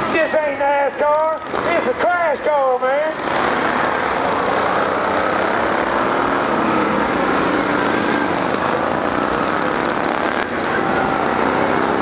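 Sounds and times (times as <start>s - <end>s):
racing lawn mower engines: 0.0s - 12.0s.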